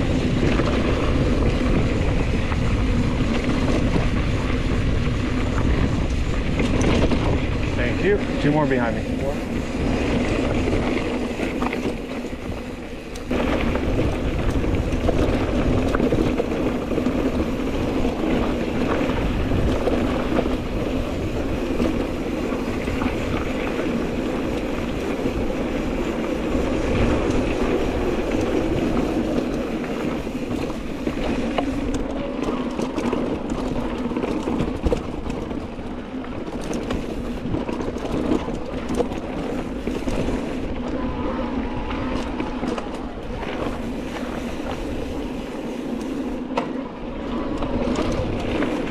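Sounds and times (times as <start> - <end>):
bike rattling and clicking: 0.0 - 48.9
bike tyres rolling over gravel: 0.0 - 48.9
wind on microphone: 0.0 - 48.9.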